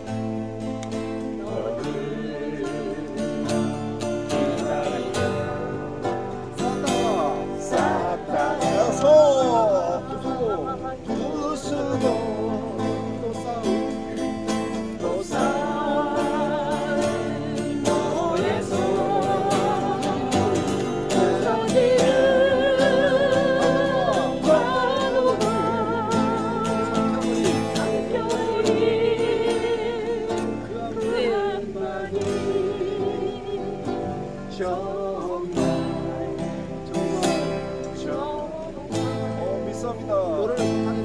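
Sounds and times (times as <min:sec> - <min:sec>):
acoustic guitar: 0:00.0 - 0:41.0
person singing a slow ballad: 0:00.0 - 0:41.0.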